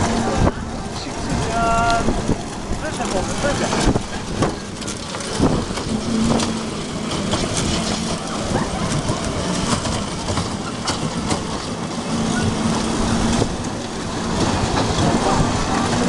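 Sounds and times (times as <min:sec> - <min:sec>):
ride-on train cars rattling: 0:00.0 - 0:16.0.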